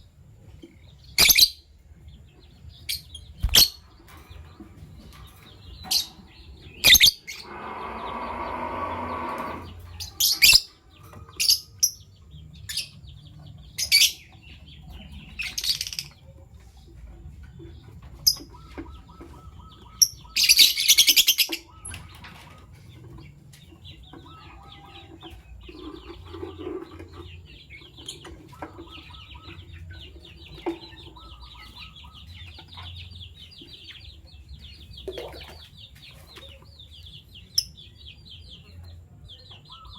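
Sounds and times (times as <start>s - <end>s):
lovebirds twittering: 0.0s - 39.9s.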